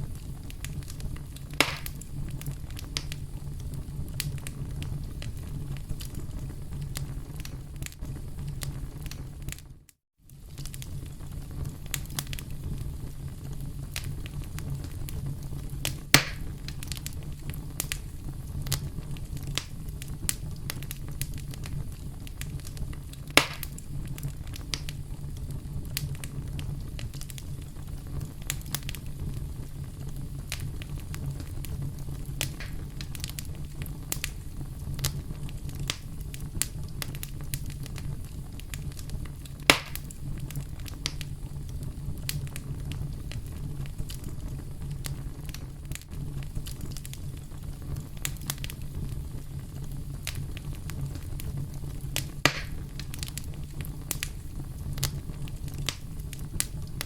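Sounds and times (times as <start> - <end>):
campfire crackling: 0.0 - 57.0
loud fire pops: 0.0 - 57.0.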